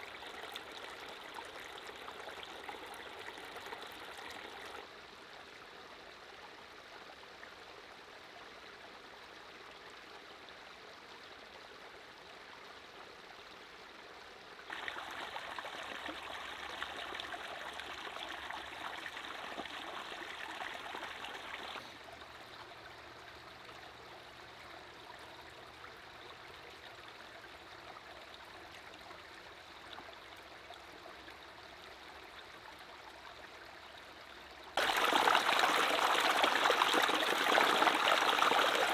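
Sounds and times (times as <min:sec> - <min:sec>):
brook trickling over stones: 0:00.0 - 0:38.9.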